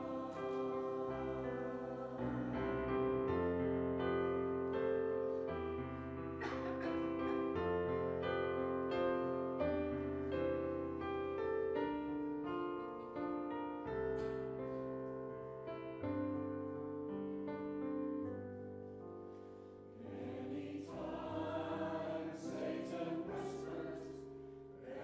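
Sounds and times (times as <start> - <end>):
instrumental piano music: 0.0 - 24.8.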